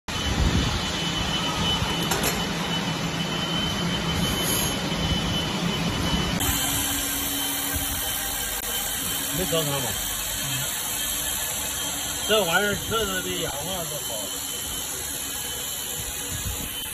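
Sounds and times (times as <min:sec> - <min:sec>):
faint high whine: 0:00.1 - 0:16.9
industrial machinery hum: 0:00.1 - 0:16.9.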